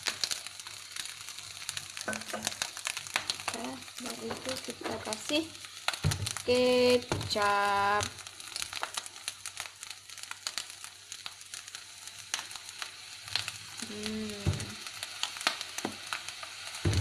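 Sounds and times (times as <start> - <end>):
rice sizzling in a hot wok: 0.0 - 17.0
sharp crackles from sauce: 0.0 - 17.0.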